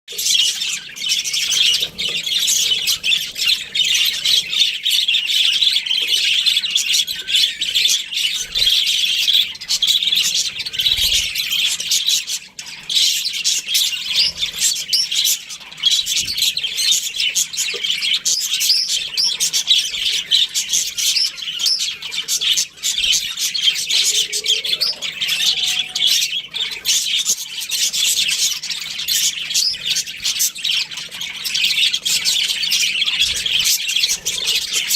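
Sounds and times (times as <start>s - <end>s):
budgerigars chattering and chirping: 0.1s - 34.9s.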